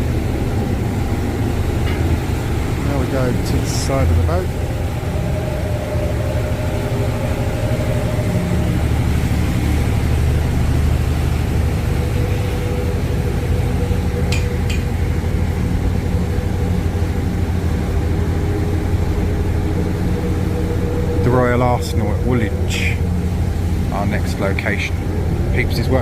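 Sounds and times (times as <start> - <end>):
ferry engines droning: 0.0 - 26.0
steady tones: 0.0 - 26.0.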